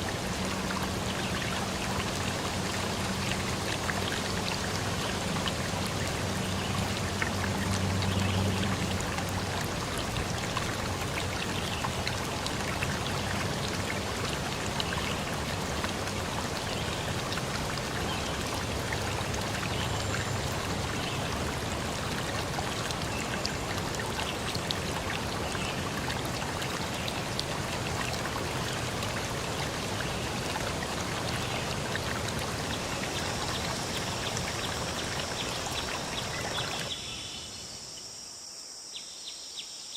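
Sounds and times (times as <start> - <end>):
small splashes and drips: 0.0 - 36.9
stream rushing water: 0.0 - 37.0.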